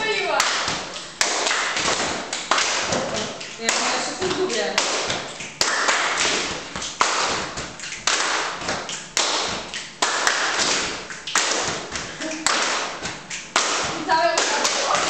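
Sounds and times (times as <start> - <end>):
people clapping hands: 0.0 - 15.0.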